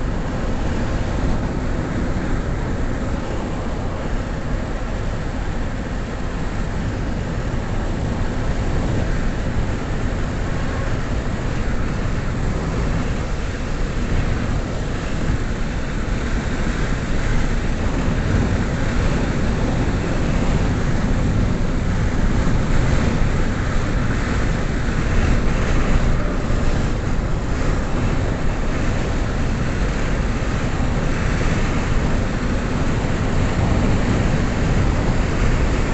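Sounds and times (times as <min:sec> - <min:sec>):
car road and wind noise: 0:00.0 - 0:35.9.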